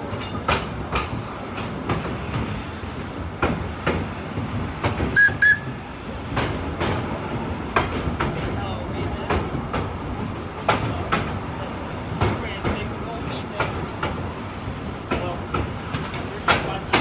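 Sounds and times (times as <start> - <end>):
train rumble: 0.0 - 17.0
train wheels clicking over rail joints: 0.0 - 17.0.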